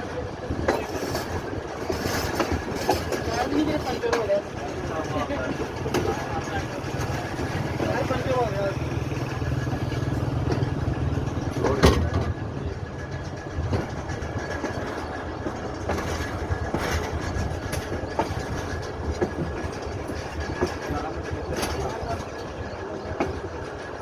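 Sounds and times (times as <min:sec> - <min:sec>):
train rumbling on rails: 0:00.0 - 0:24.0
wheels knocking over rail joints: 0:00.4 - 0:24.0.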